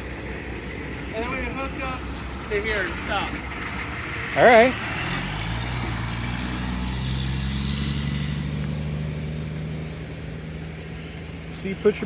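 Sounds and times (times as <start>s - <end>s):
heavy truck engine passing: 0.0s - 12.0s.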